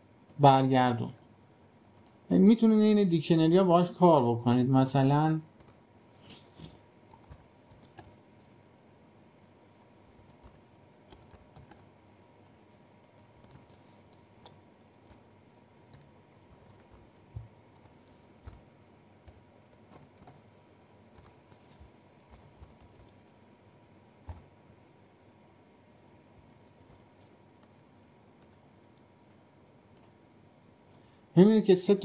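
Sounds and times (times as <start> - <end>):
low steady hiss: 0.0 - 32.0.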